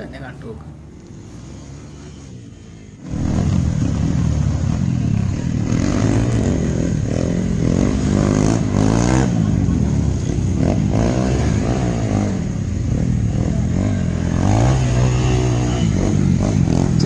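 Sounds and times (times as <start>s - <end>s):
motorcycle engine revving: 3.0s - 17.0s.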